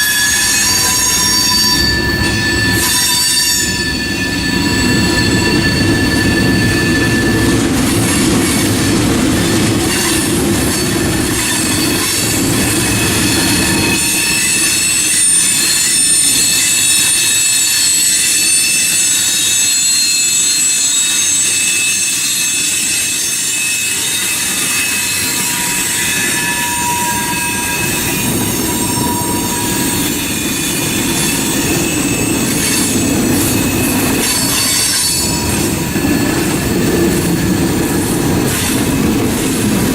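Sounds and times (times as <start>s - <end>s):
train wheels squealing: 0.0s - 39.9s
wheels rumbling on rail: 0.0s - 39.9s.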